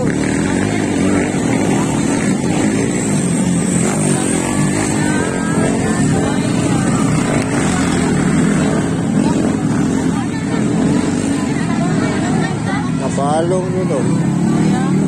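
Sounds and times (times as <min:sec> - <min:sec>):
small motorcycle engines revving: 0:00.0 - 0:15.0.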